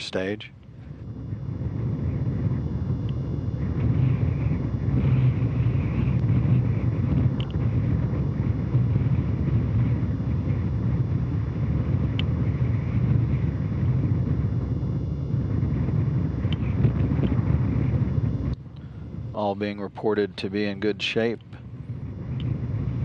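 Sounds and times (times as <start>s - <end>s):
rocket low rumble: 0.0s - 23.0s.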